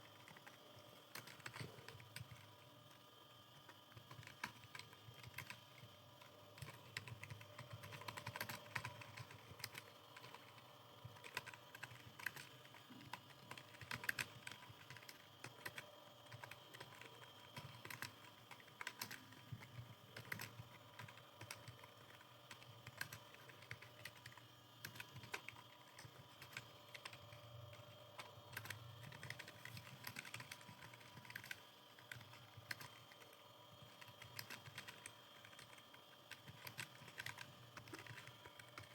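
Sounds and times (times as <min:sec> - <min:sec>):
keyboard typing clicks: 0:00.0 - 0:02.5, 0:03.9 - 0:38.9
faint steady hum: 0:00.0 - 0:38.9.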